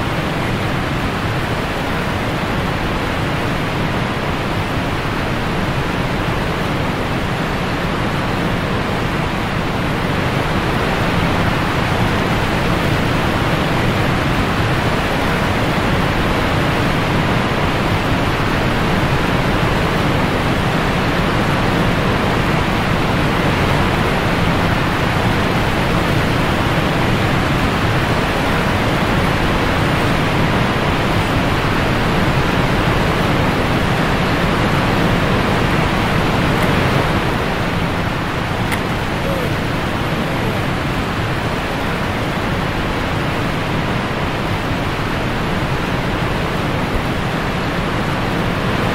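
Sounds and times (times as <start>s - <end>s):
river rapids rushing: 0.0s - 48.9s.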